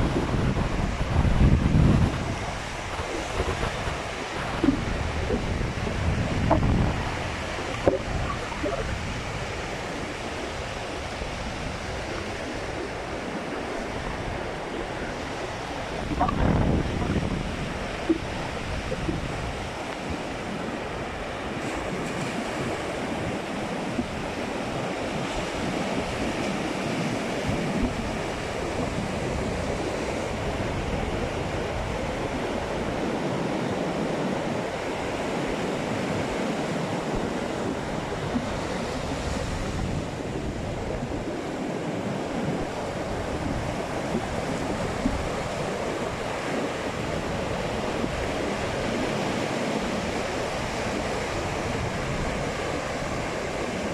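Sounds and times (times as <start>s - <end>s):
waves breaking on beach: 0.0s - 53.9s
wind on microphone: 0.0s - 53.9s.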